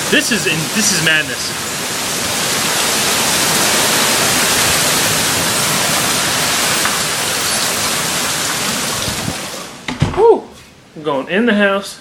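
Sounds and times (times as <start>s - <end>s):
heavy rain pouring: 0.0s - 9.9s.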